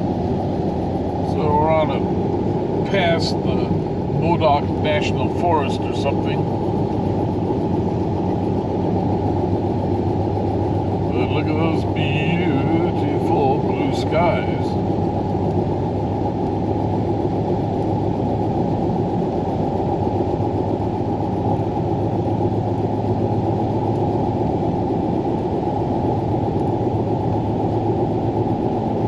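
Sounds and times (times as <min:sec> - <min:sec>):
vehicle engine and tyre noise: 0:00.0 - 0:29.0.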